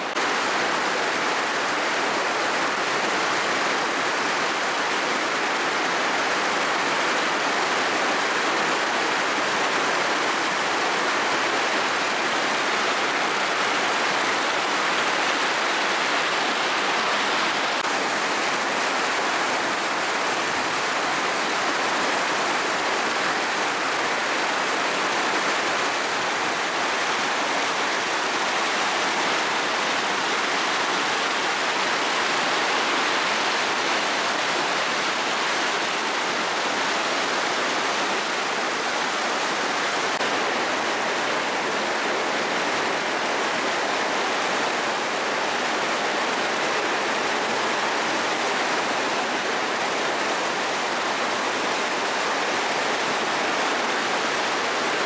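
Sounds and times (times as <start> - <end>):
river rapids rushing over rocks: 0.0 - 55.0.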